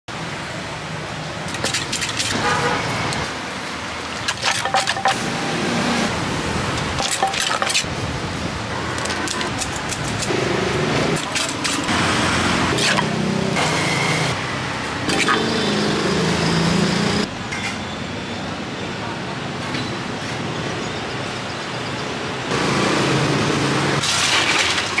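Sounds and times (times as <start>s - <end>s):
traffic hum: 0.1s - 25.0s.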